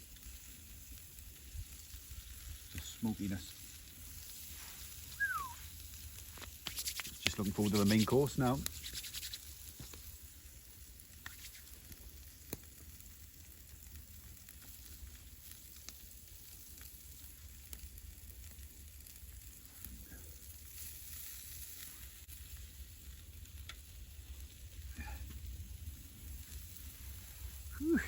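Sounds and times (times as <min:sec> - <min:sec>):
fire pops and crackles: 0:00.0 - 0:28.0
meat sizzling over campfire: 0:00.0 - 0:28.0.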